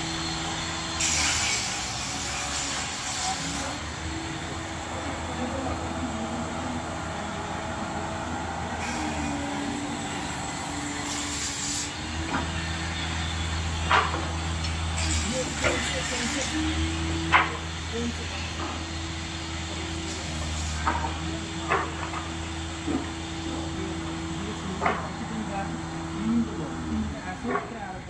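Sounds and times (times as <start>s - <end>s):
machinery humming and hissing: 0.0s - 28.0s.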